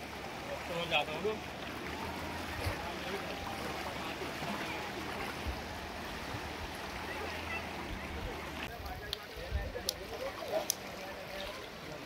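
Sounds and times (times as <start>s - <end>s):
river water rushing over stones: 0.0s - 12.0s.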